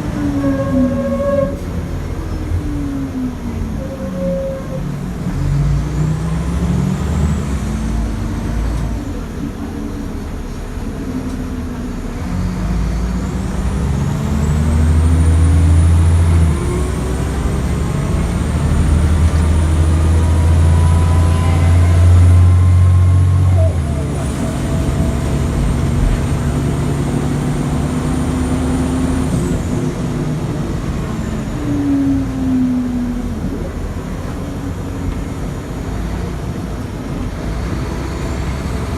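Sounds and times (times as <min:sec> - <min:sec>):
bus diesel engine accelerating: 0:00.0 - 0:38.9.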